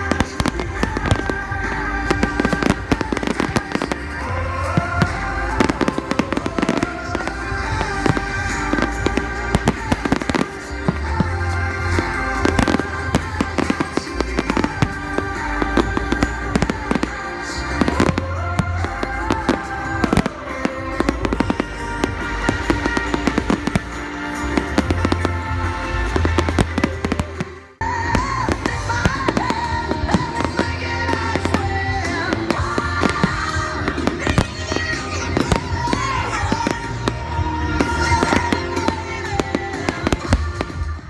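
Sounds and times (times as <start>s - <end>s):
fireworks bangs and cracks: 0.0s - 41.0s
loud music: 0.0s - 41.0s.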